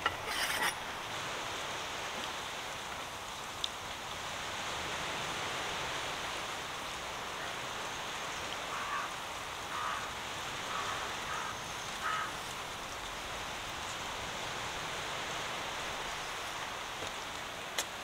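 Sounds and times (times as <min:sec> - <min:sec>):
steady hissing noise: 0:00.0 - 0:18.0.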